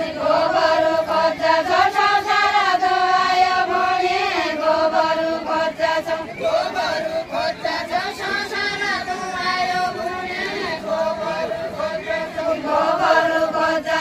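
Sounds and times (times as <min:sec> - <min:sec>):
women singing in unison: 0:00.0 - 0:14.0.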